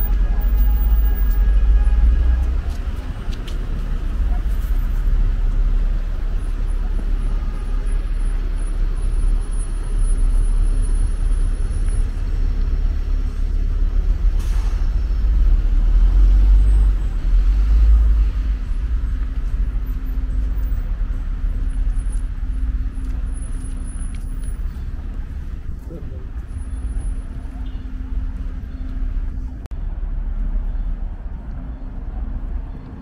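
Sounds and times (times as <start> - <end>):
vehicles passing with low rumble: 0.0 - 33.0.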